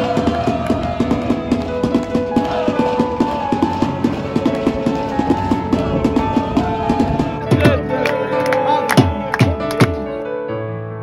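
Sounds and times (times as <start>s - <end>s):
music with steady drum beat: 0.0s - 8.0s, 8.9s - 10.1s.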